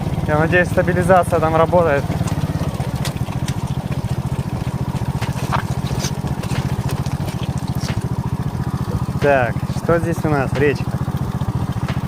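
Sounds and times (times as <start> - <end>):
knocks and rattles of bike: 0.0 - 12.0
moped engine pulsing rumble: 0.0 - 12.0.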